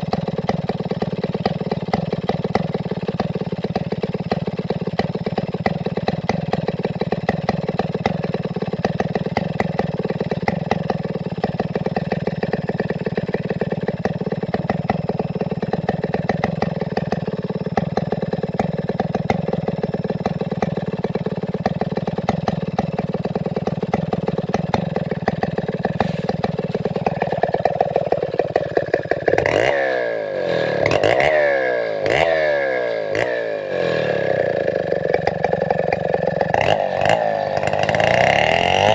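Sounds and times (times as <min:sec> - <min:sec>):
chainsaw running and revving: 0:00.0 - 0:38.9.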